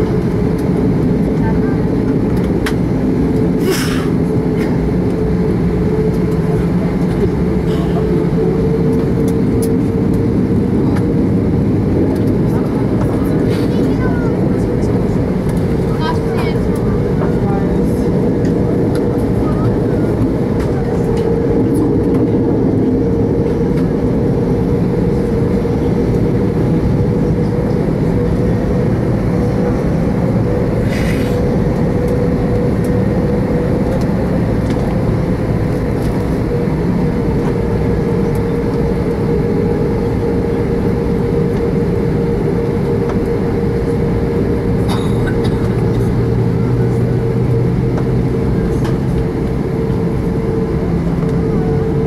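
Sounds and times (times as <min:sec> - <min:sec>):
jet engines low rumble: 0:00.0 - 0:52.0
steady cabin hum: 0:00.0 - 0:52.0.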